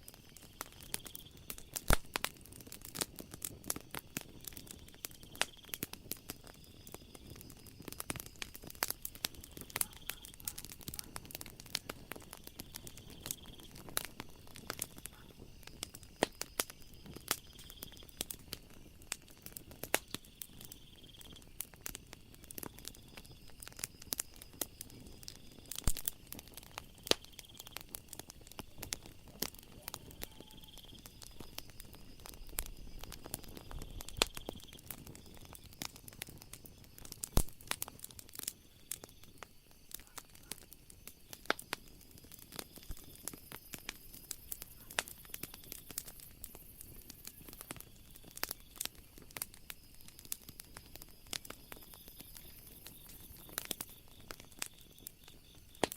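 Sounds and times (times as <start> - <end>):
night insects trilling: 0.0 - 55.9
wood fire crackling and popping: 0.0 - 55.9.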